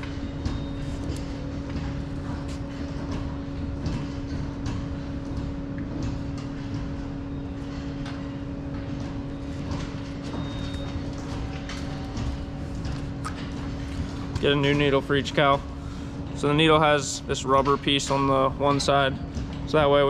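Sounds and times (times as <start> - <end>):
knocks and clanks: 0.0 - 20.0
machine hum with low rumble: 0.0 - 20.0.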